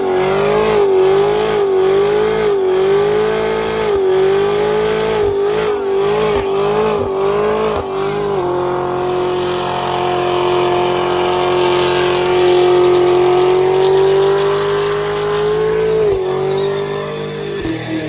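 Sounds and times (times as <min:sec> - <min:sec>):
car engine revving high: 0:00.0 - 0:18.0.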